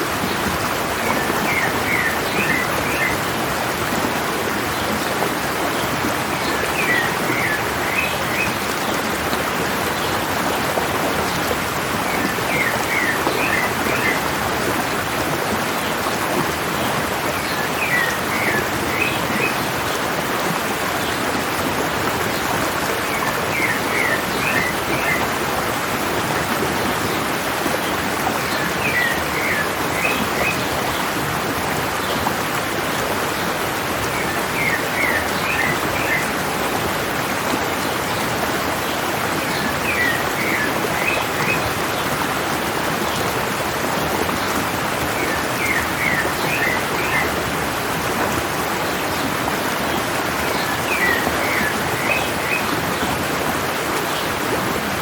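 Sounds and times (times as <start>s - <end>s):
mountain stream running: 0.0s - 55.0s.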